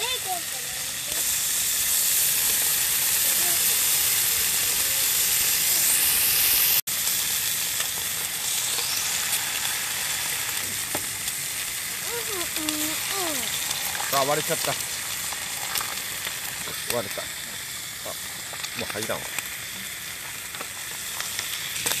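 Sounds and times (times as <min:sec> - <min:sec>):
bacon sizzling in a skillet: 0:00.0 - 0:22.0
egg frying: 0:00.0 - 0:22.0.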